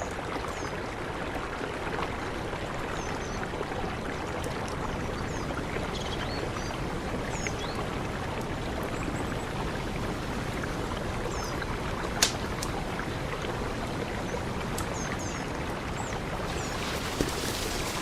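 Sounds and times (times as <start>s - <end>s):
river rushing: 0.9s - 18.0s.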